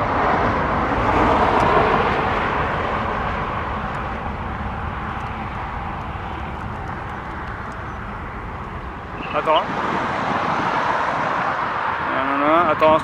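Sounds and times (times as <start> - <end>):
jet airliner passing: 0.0 - 13.0.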